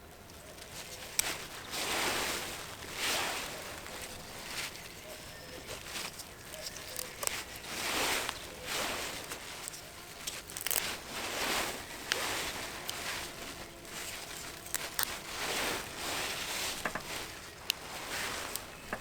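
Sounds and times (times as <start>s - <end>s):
rustling crunching sounds: 0.0s - 19.0s.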